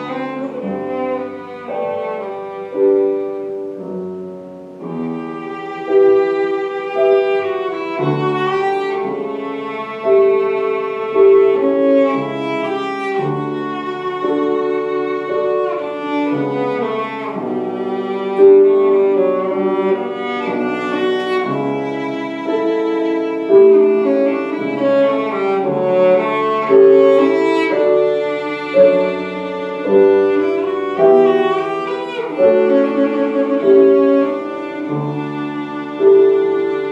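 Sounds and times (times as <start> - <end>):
bowed cello: 0.0 - 36.9
piano accompaniment: 0.0 - 36.9.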